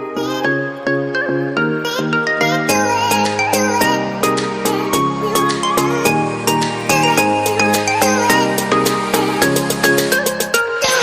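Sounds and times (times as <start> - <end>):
upbeat music with plucked guitar: 1.8 - 10.8.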